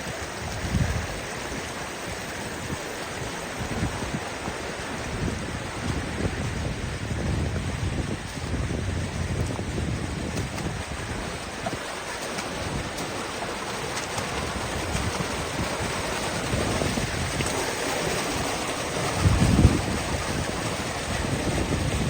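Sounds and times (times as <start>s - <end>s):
creek water rushing: 0.0s - 22.0s
wind buffeting microphone: 0.0s - 22.0s.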